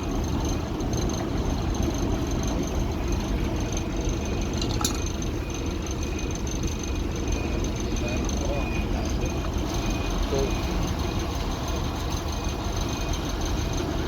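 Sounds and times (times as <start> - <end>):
heavy engine running: 0.0 - 14.0.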